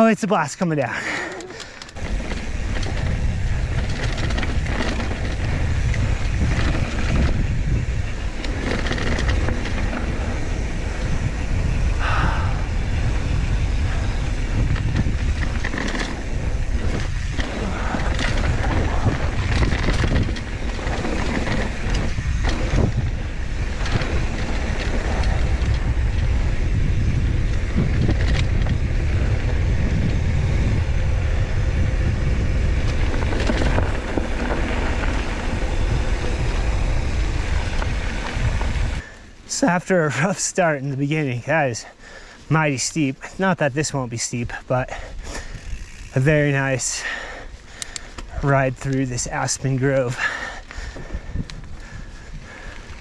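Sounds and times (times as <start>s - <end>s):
bike tyres rumbling over dirt: 0.8s - 53.0s
wind buffeting microphone: 1.4s - 39.2s, 41.1s - 53.0s.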